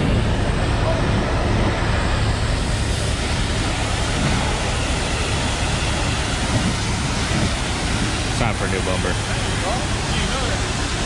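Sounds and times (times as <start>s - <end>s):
low hum: 0.0s - 11.0s
pressure washer spraying water: 0.0s - 11.0s.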